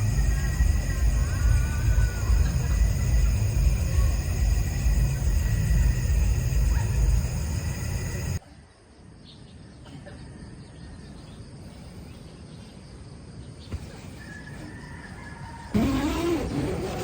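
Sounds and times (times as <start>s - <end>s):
faint insect chirps: 0.0s - 16.7s.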